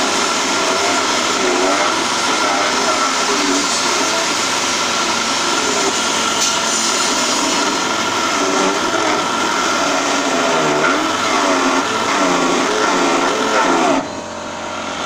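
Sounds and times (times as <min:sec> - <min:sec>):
chisel cutting spinning wood: 0:00.0 - 0:15.0
wood lathe motor whine: 0:00.0 - 0:15.0.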